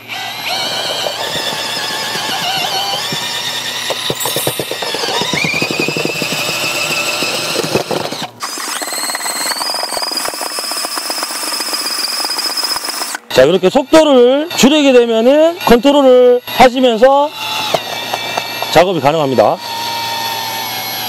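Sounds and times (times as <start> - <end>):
mixer drill motor whine: 0.0 - 21.0.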